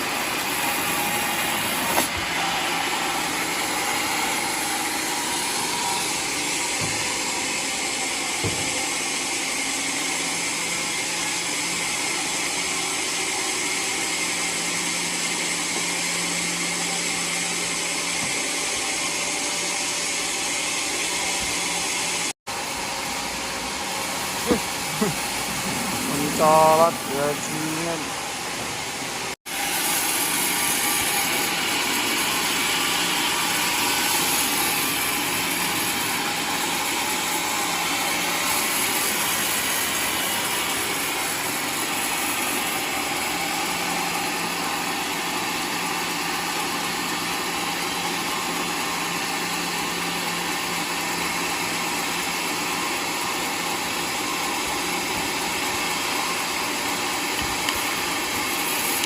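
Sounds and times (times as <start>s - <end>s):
sawmill sawing log: 0.0s - 59.0s.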